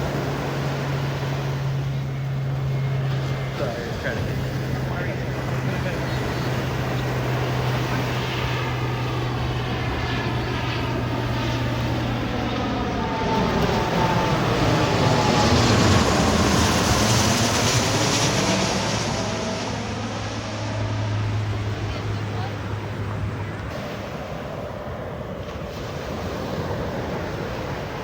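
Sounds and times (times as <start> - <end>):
airplane flying overhead: 0.0 - 28.0
steady low hum: 0.0 - 28.0.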